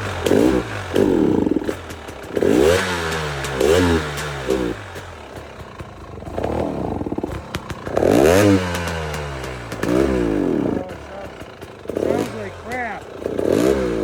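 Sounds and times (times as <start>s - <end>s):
two-stroke engine revving: 0.0s - 14.0s.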